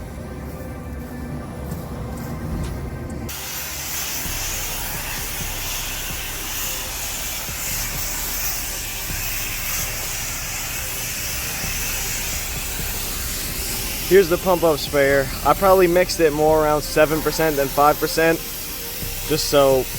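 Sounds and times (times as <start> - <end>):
pressure washer spraying water: 3.3 - 19.9.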